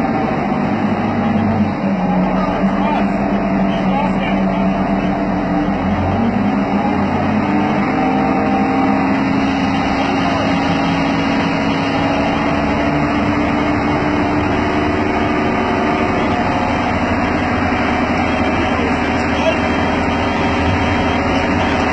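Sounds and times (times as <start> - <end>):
diesel train engine droning: 0.0 - 21.9.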